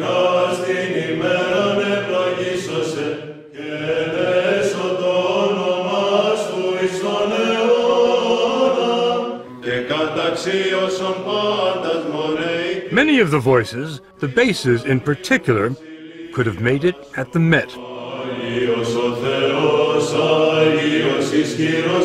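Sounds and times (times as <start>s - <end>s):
men chanting unaccompanied: 0.0s - 22.0s.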